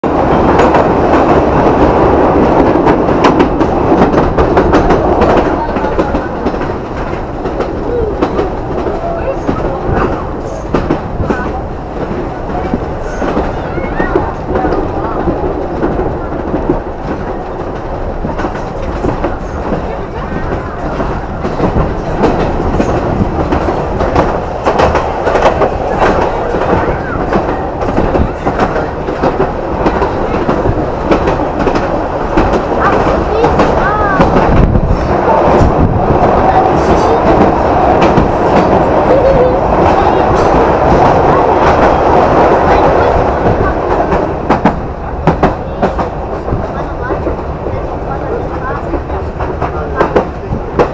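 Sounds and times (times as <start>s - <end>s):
train carriage rumbling: 0.0s - 50.9s
wheels clattering over rails: 0.0s - 50.9s.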